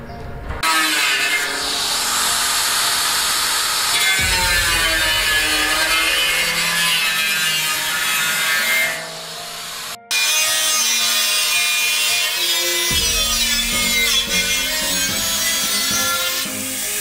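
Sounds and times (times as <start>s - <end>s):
angle grinder cutting steel: 0.6s - 17.0s.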